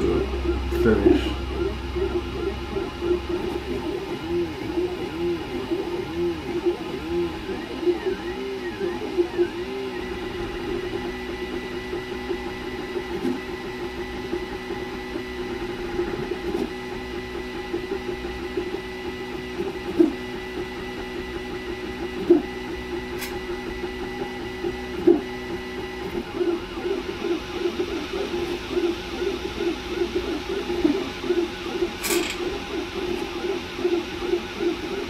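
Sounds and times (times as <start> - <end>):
printer stepper motors humming: 0.0 - 35.0.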